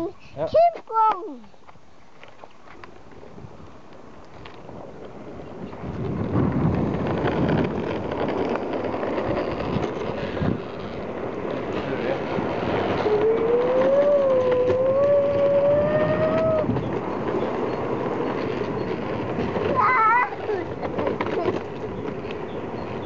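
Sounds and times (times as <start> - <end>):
longboard wheels rolling on asphalt: 0.6 - 23.0.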